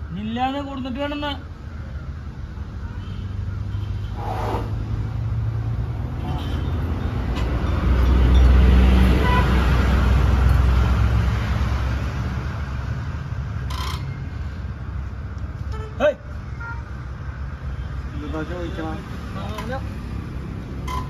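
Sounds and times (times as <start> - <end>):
vehicle engine rumbling: 4.0 - 21.0.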